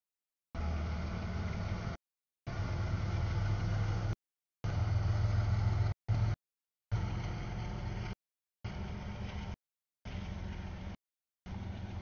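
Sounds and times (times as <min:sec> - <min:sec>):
freight train rumbling past: 0:00.6 - 0:12.0.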